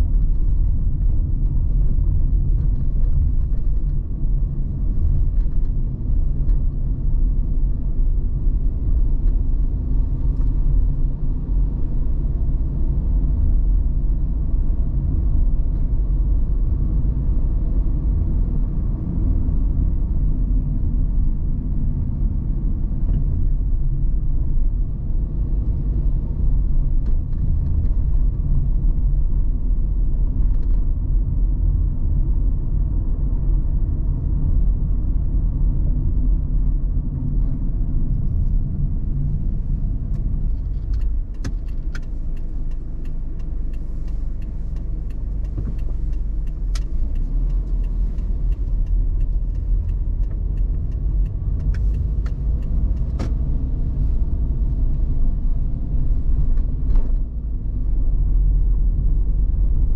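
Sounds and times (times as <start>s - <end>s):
car interior road and engine rumble: 0.0s - 59.9s.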